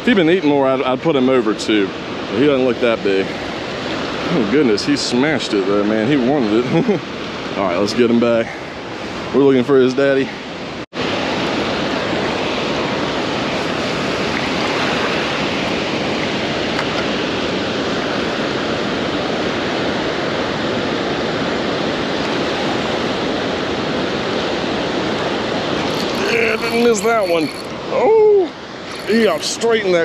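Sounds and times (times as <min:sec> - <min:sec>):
water rushing through spillway: 0:00.0 - 0:30.0.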